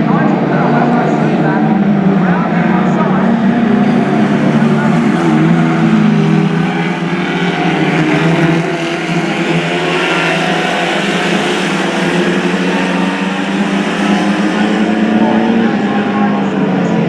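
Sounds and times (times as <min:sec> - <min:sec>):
stock car engines racing: 0:00.0 - 0:17.0.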